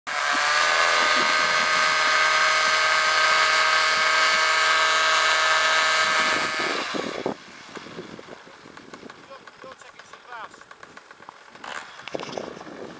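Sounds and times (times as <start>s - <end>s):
paramotor engine whining: 0.1s - 12.9s.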